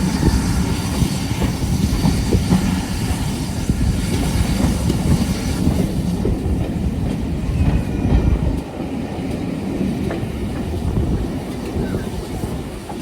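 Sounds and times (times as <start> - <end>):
train wheel clicks: 0.0 - 11.8
train rumbling on track: 0.0 - 13.0.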